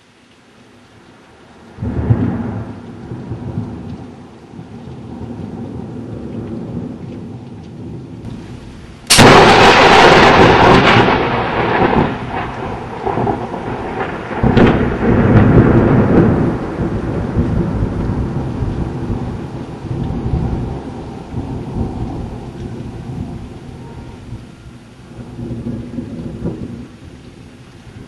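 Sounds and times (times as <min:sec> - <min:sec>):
rain: 0:00.0 - 0:28.0
thunder crack and rumble: 0:01.8 - 0:28.0.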